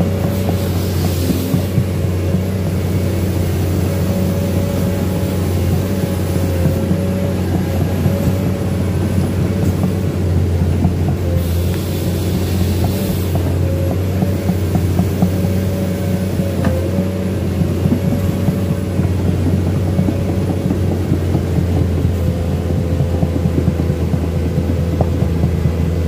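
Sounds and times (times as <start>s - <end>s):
excavator diesel engine drone: 0.0s - 26.0s.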